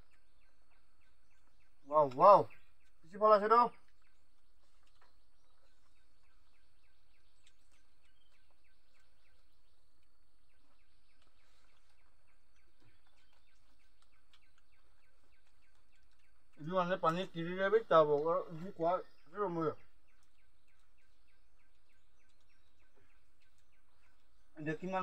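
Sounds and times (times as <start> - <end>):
faint high wildlife chirps: 0.0 - 25.0.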